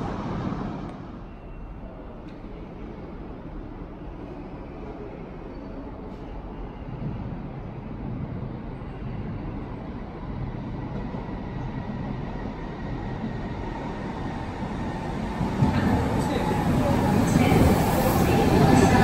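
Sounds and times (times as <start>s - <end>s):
train approaching with low rumble: 0.0s - 19.0s.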